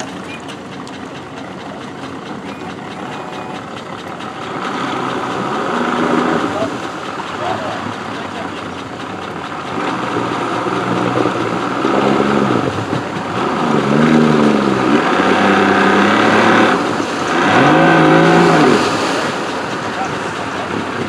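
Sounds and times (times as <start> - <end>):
outboard motor revving: 0.0 - 21.0
propeller churning water: 0.0 - 21.0.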